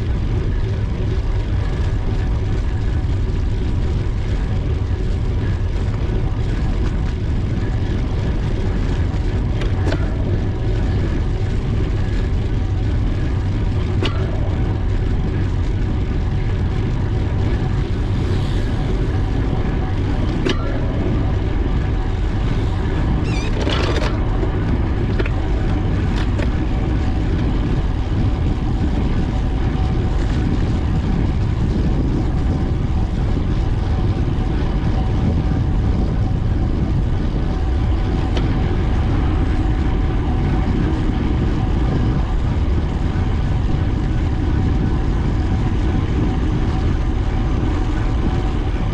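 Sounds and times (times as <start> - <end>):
road rumble: 0.0 - 48.9
wind on microphone: 0.0 - 48.9.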